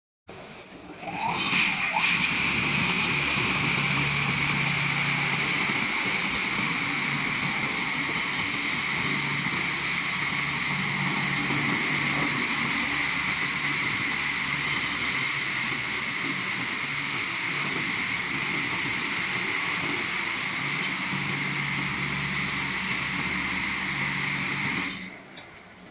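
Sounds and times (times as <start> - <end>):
high-pressure water jets hissing: 0.8 - 25.4.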